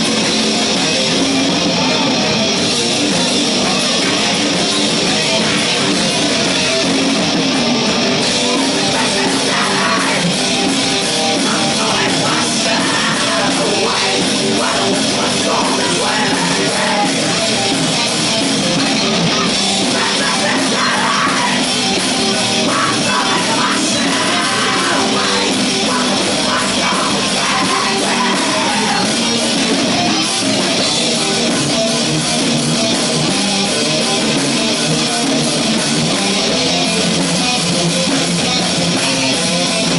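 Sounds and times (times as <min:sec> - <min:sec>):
drums: 0:00.0 - 0:39.9
electric guitars: 0:00.0 - 0:39.9.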